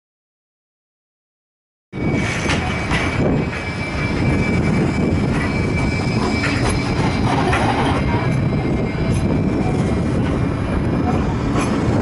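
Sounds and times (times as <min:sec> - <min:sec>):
tram rumbling on track: 0:01.9 - 0:12.0
high tram whine: 0:02.0 - 0:12.0.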